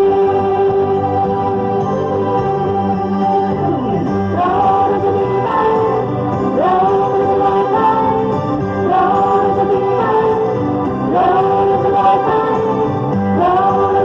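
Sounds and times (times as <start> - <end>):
female group singing pop ballad: 0.0 - 3.5, 4.3 - 14.0
backing track: 0.0 - 14.0.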